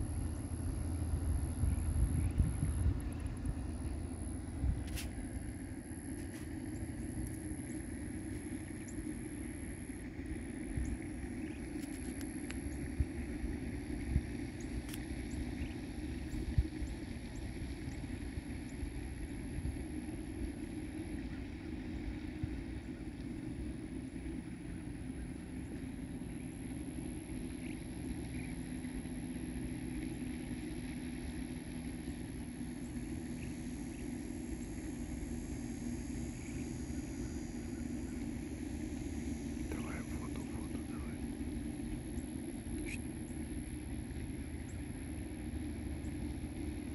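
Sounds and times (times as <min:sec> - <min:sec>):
low outdoor rumble and hum: 0:00.0 - 0:46.9.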